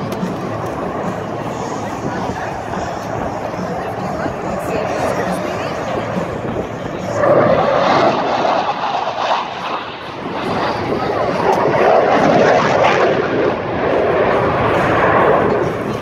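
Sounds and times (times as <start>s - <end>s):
jet engine rushing noise: 0.0s - 16.0s.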